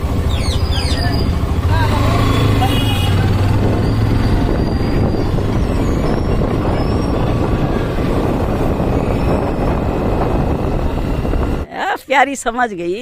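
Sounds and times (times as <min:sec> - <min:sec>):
vehicle rushing noise: 0:00.0 - 0:11.7.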